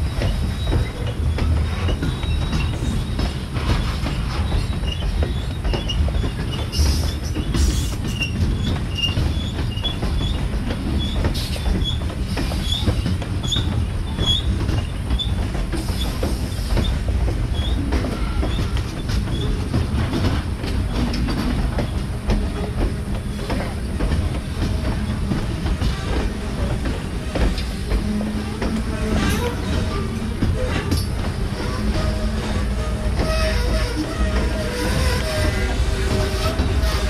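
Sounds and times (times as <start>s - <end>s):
freight train rumbling: 0.0s - 37.0s
wheels clicking over rail joints: 0.0s - 37.0s.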